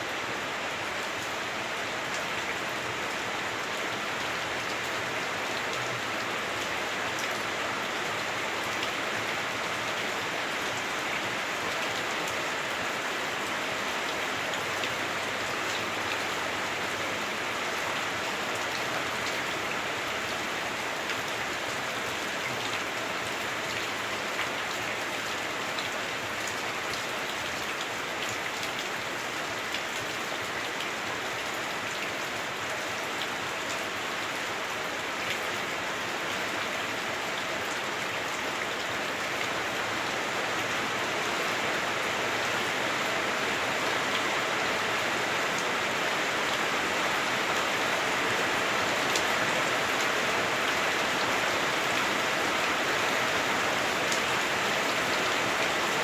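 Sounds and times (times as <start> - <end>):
heavy rain drumming on a roof: 0.0 - 56.0.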